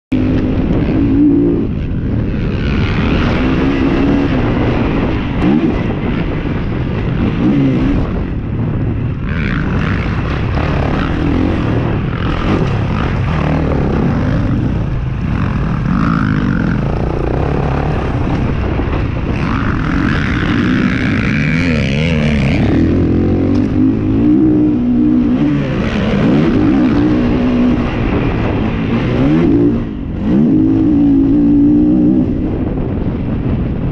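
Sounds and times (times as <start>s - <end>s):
motocross engine revving: 0.1s - 32.4s.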